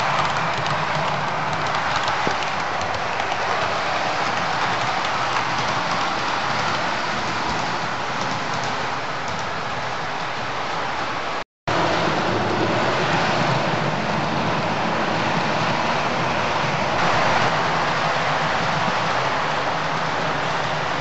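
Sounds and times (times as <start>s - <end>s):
model train rattling on track: 0.0s - 11.0s, 11.8s - 21.0s.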